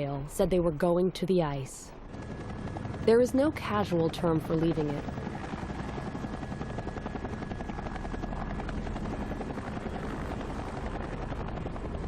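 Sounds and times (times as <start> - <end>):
helicopter rotor chopping: 1.9 - 12.0.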